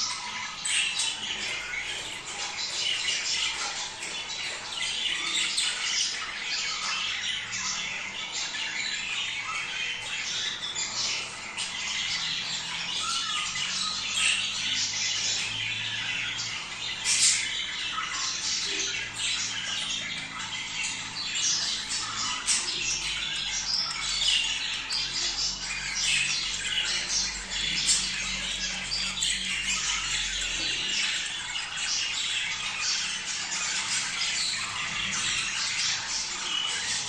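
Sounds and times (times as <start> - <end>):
budgerigars chattering and squawking: 0.0 - 37.0.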